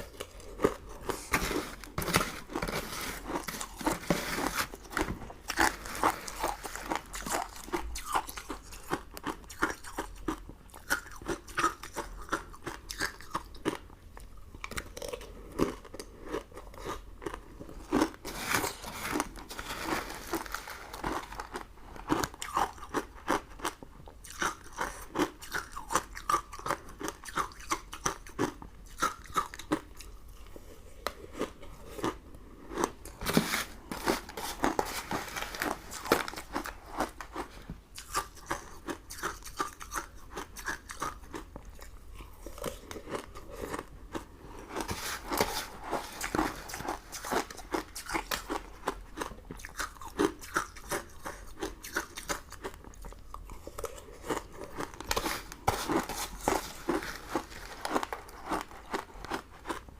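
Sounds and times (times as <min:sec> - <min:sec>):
person chewing crunchy sweets: 0:00.0 - 0:59.9.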